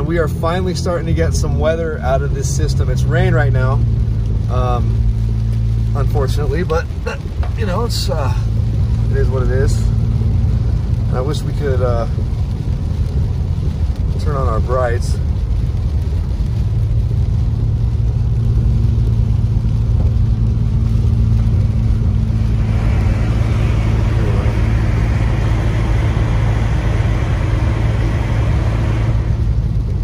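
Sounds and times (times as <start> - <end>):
car engine hum: 0.0 - 30.0
tyre hiss on wet road: 0.8 - 30.0.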